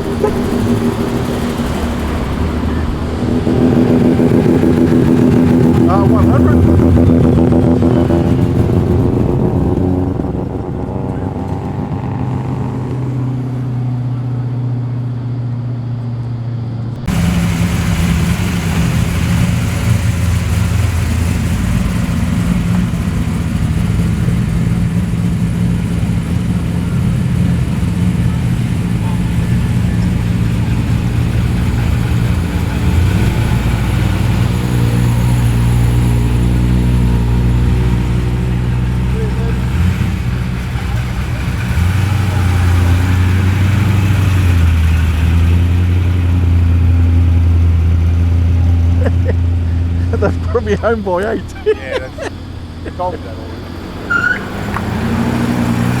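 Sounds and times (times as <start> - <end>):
car engines rumbling: 0.0 - 56.0
loud engine rumble: 0.0 - 56.0.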